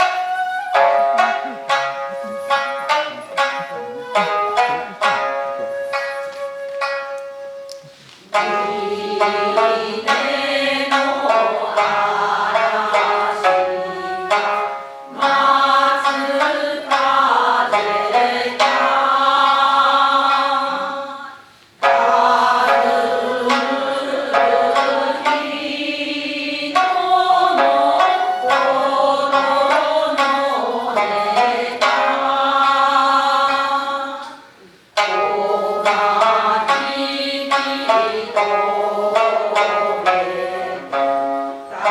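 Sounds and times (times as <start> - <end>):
folk song singing: 0.0 - 41.9
instrumental accompaniment: 0.0 - 41.9.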